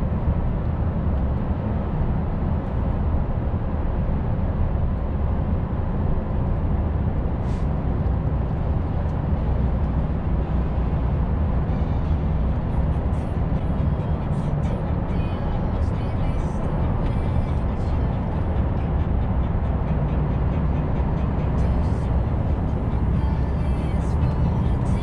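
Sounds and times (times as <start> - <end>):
truck engine running steadily: 0.0 - 25.0
tyre and road noise: 0.0 - 25.0.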